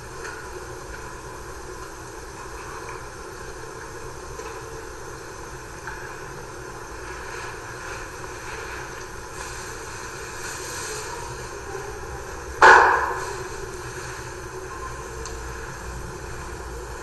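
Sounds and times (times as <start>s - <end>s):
steady hum and hiss: 0.0s - 17.0s.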